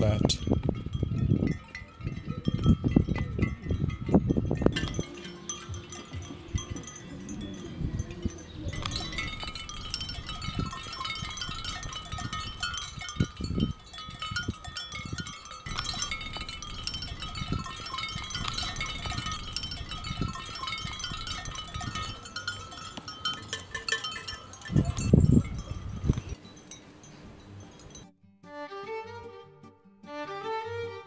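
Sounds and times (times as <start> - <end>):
livestock bells clinking: 0.0 - 28.1.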